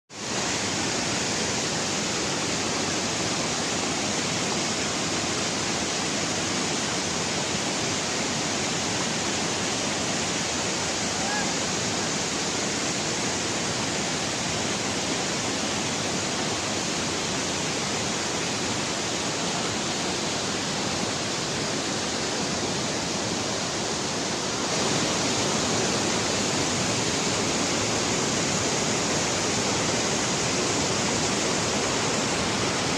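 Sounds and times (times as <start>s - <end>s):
flowing water rushing: 0.1s - 32.9s.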